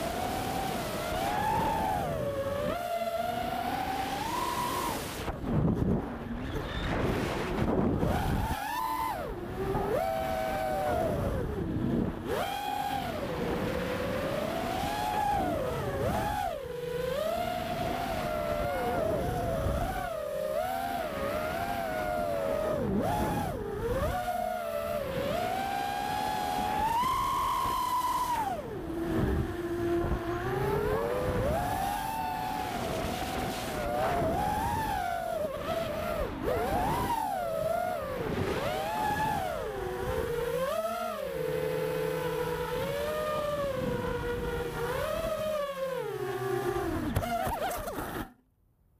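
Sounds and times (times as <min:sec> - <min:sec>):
drone motors and propellers whining: 0:00.0 - 0:48.4.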